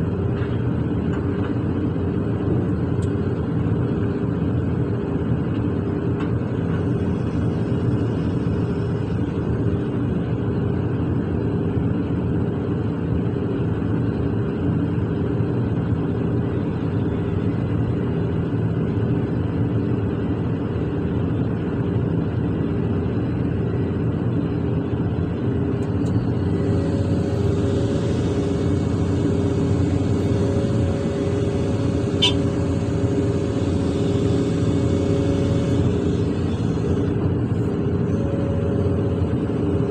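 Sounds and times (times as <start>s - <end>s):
excavator diesel engine running: 0.0s - 39.9s
steady whine: 0.0s - 39.9s.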